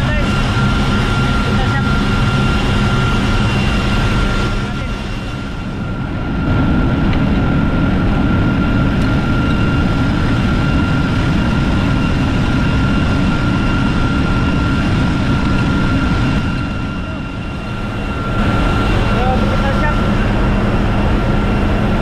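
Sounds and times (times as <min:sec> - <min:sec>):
engine room machinery rumble: 0:00.0 - 0:22.0
high whine: 0:00.0 - 0:22.0.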